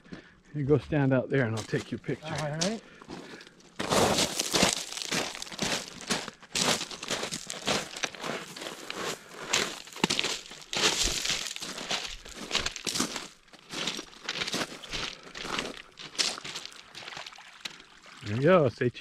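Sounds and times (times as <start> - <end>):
footsteps crunching on stones: 1.0 - 17.8.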